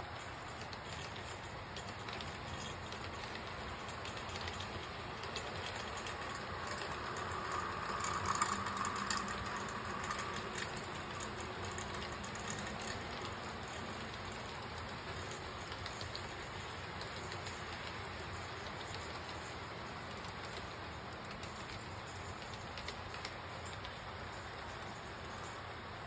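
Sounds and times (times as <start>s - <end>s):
model train cars rattling: 0.0s - 26.0s
clicks over rail joints: 0.2s - 25.6s.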